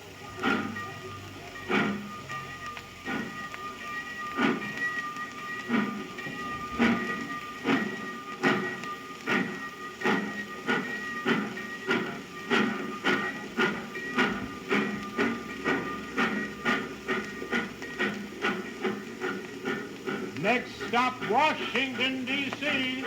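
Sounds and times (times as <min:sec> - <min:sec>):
steam locomotive exhaust chuffs: 0:00.0 - 0:23.0.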